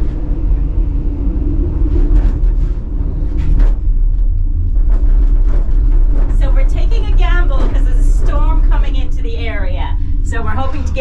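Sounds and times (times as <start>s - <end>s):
gondola cabin low rumble: 0.0s - 11.0s.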